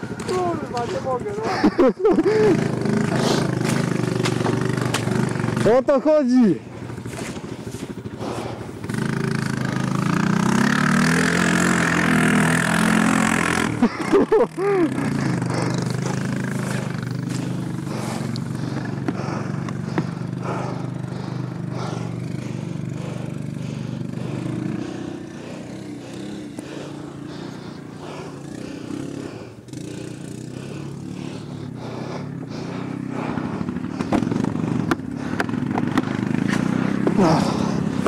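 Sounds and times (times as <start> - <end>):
quad bike engine running: 0.0 - 38.0.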